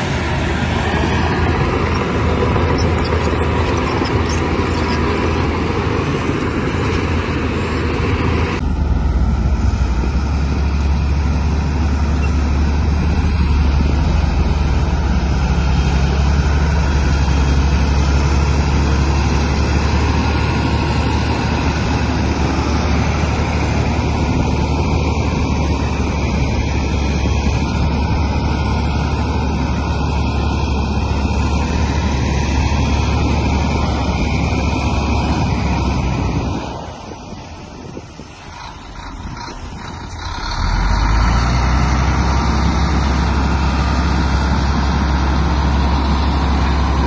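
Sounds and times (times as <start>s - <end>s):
bulldozer diesel engine drone: 0.0s - 47.0s.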